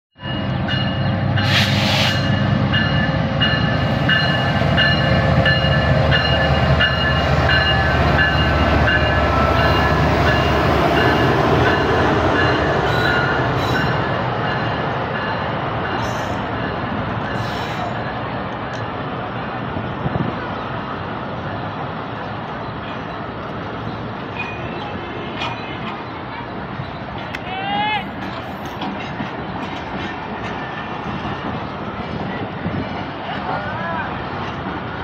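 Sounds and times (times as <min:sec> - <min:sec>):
train low rumble: 0:00.2 - 0:35.0.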